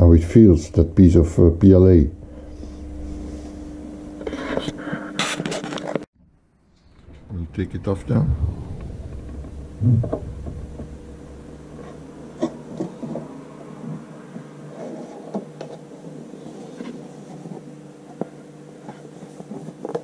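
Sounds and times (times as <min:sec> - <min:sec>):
steady low hum: 0:00.0 - 0:18.8.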